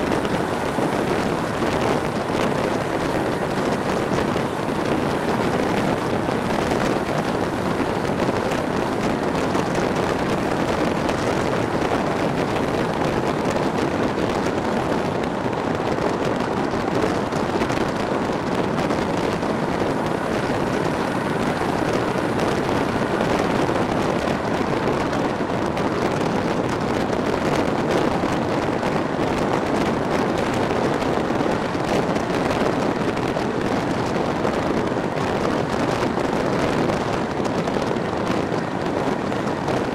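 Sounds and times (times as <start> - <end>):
train running noise: 0.0 - 39.9
wind rushing past train window: 0.0 - 39.9.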